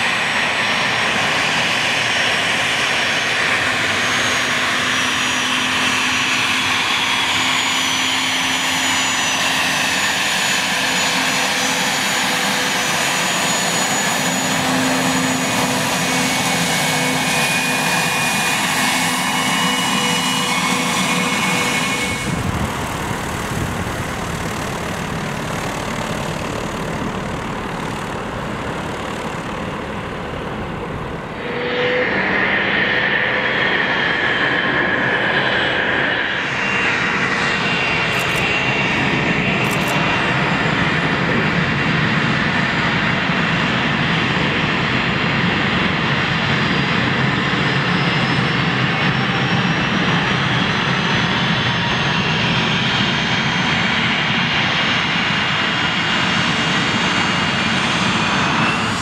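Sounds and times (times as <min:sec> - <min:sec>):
jet engines running with high whine: 0:00.0 - 0:59.0
propeller plane: 0:00.0 - 0:59.0.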